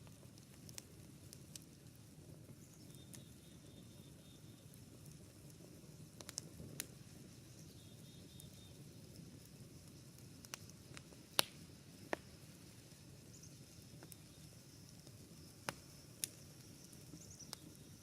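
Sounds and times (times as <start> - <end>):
campfire rumble: 0.0 - 18.0.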